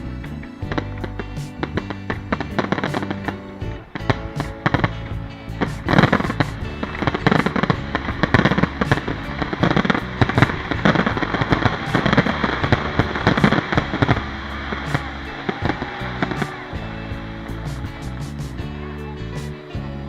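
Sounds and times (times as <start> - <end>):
background music: 0.0 - 20.0
fireworks bangs and cracks: 0.7 - 18.6.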